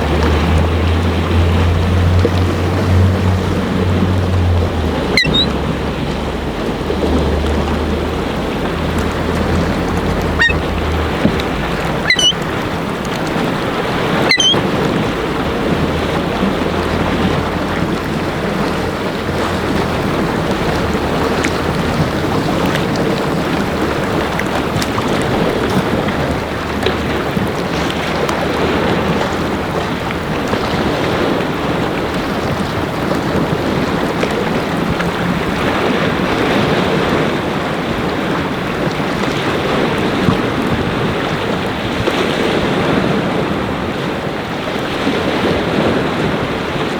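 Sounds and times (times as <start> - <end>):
waves breaking and washing: 0.0 - 46.9
wind buffeting microphone: 0.0 - 46.9.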